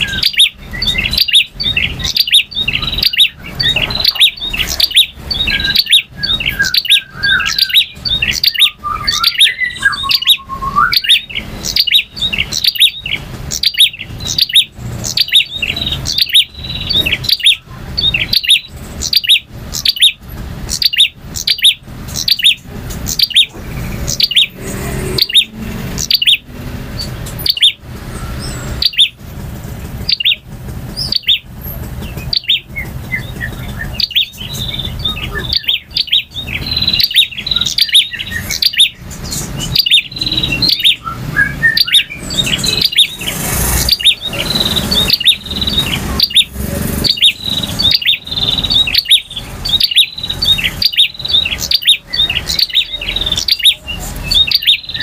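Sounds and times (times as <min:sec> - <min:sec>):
bird singing sharp chirps: 0:00.0 - 0:29.2, 0:29.8 - 0:55.0.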